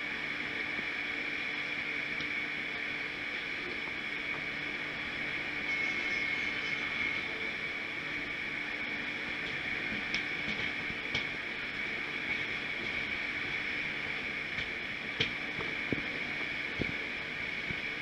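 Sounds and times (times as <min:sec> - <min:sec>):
high whine: 0:00.0 - 0:18.0
train running noise: 0:00.0 - 0:18.0.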